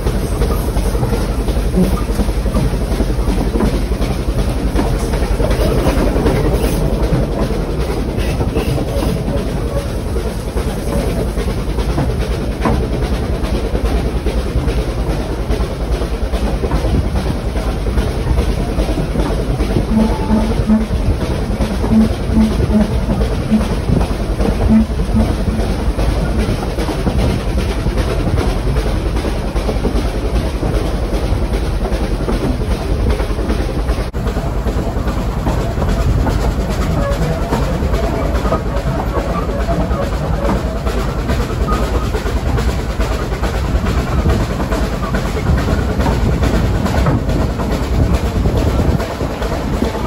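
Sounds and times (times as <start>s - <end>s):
carriage wheels clattering on rails: 0.0s - 50.0s
steam locomotive exhaust beat: 0.0s - 50.0s.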